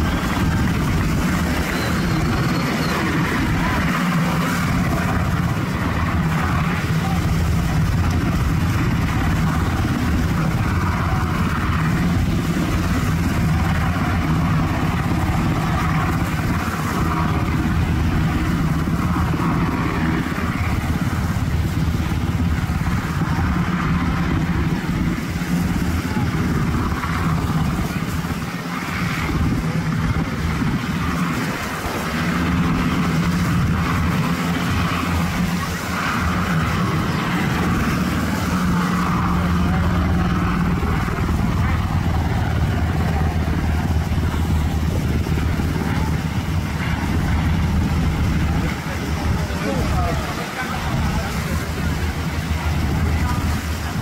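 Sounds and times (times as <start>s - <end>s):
helicopter rotor beat and turbine: 0.0s - 54.0s.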